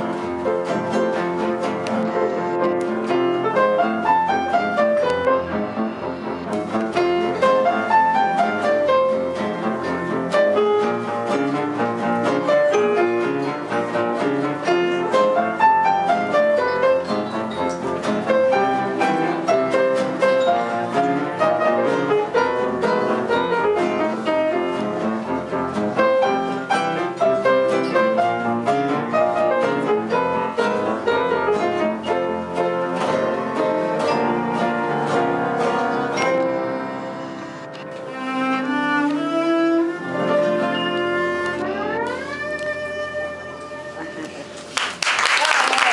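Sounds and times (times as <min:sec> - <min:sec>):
bowed cello and double bass: 0:00.0 - 0:44.5
classical guitars plucking: 0:00.0 - 0:44.9.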